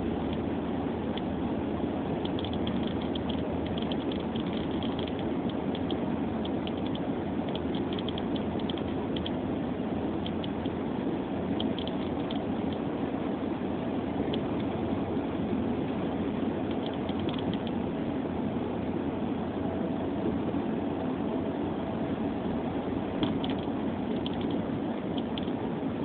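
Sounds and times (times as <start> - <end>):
car driving interior rumble: 0.0 - 26.0.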